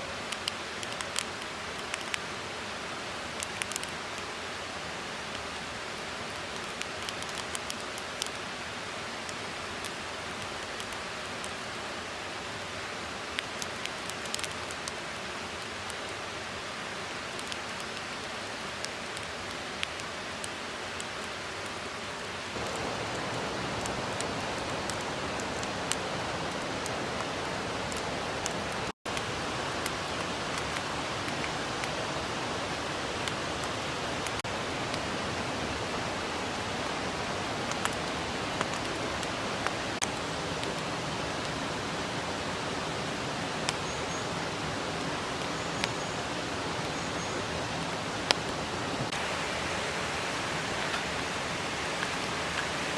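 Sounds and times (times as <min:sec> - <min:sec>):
mountain stream rushing: 0:00.0 - 0:52.9.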